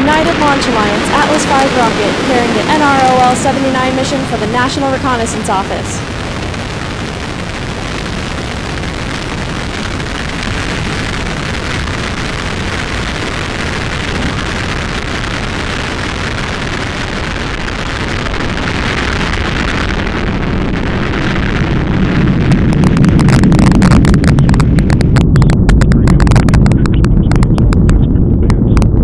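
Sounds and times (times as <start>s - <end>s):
rocket engine roaring and crackling: 0.0s - 29.0s.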